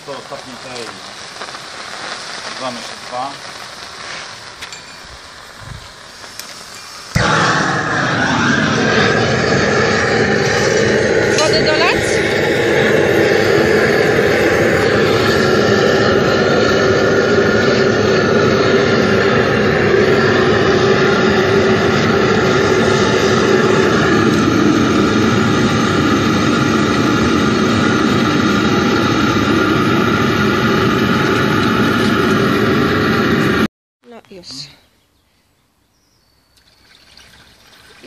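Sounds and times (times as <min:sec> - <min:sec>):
furnace burner roaring: 0:00.0 - 0:33.7.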